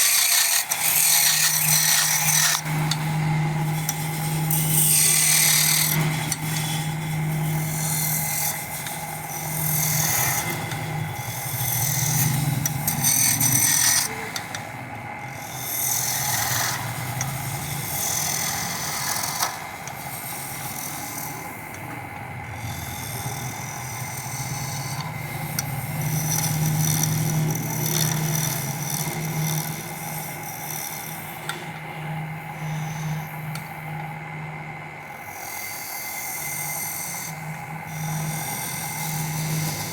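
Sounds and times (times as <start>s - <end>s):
tool scraping spinning wood: 0.0s - 34.1s, 35.1s - 39.9s
wood lathe motor hum: 0.0s - 39.9s.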